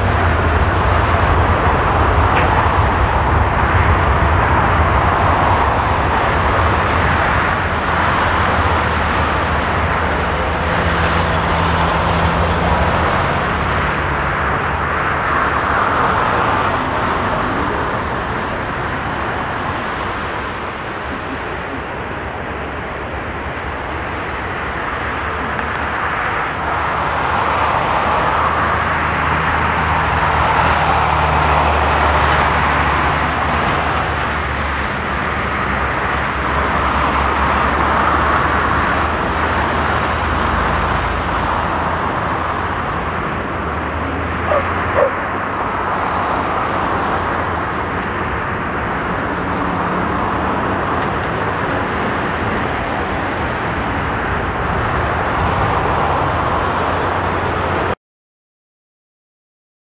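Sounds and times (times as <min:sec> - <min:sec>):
jet engine roar: 0:00.0 - 0:57.9.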